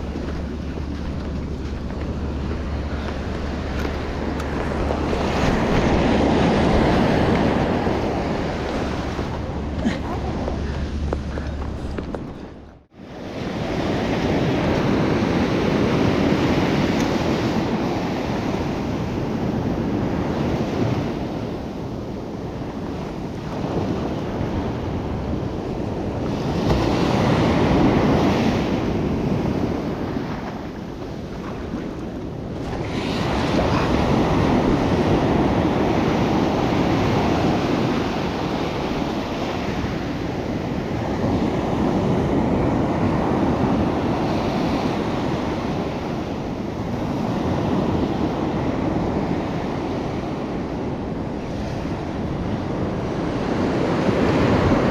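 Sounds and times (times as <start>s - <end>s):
waves breaking on beach: 0.0s - 54.9s
wind buffeting microphone: 0.0s - 54.9s.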